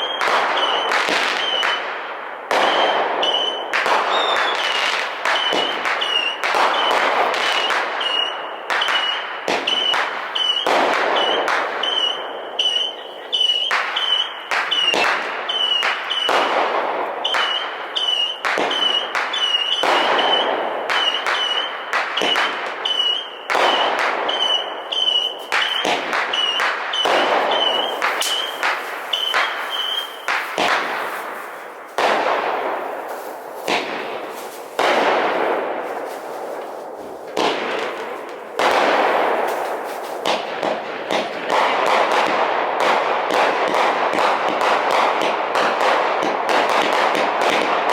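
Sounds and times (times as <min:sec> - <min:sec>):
high whistling firework tone: 0:00.0 - 0:02.0, 0:02.6 - 0:16.5, 0:17.2 - 0:40.5
fireworks bangs and crackling: 0:00.0 - 0:47.9.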